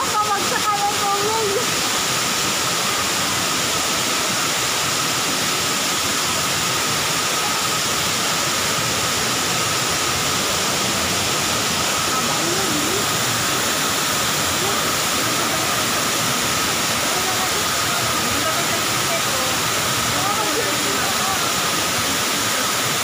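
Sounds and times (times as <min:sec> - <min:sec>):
waterfall splashing into pool: 0:00.0 - 0:23.0.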